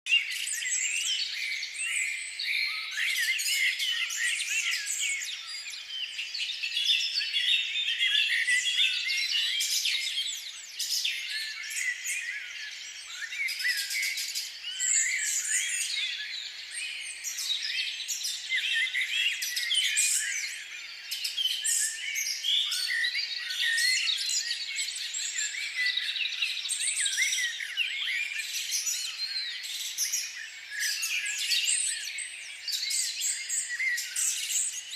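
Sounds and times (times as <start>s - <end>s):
chorus of birds chirping: 0.1s - 34.9s.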